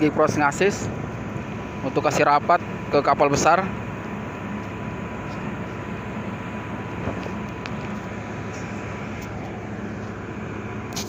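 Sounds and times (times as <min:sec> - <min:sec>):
ship diesel engines droning: 0:00.0 - 0:11.0.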